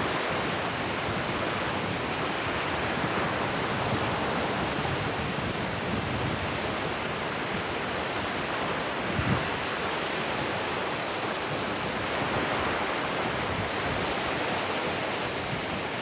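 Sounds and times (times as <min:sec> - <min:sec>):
ocean waves on beach: 0:00.0 - 0:16.0.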